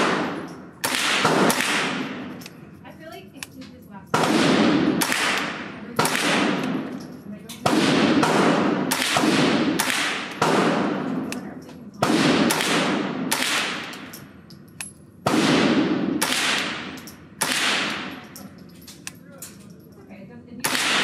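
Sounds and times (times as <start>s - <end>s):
rifle shots echoing indoors: 0.0s - 2.8s, 4.1s - 19.6s, 20.6s - 21.0s.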